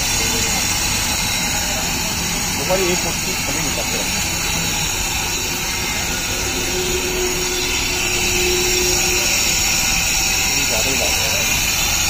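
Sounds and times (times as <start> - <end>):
mixing machine running: 0.0 - 12.0.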